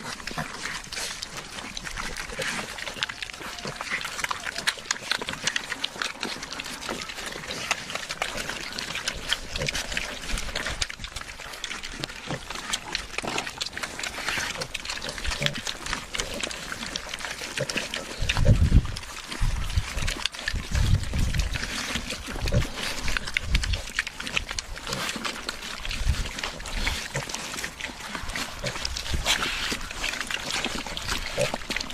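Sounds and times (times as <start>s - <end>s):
pigs chewing and slurping: 0.0s - 31.9s
pigs grunting: 0.0s - 31.9s.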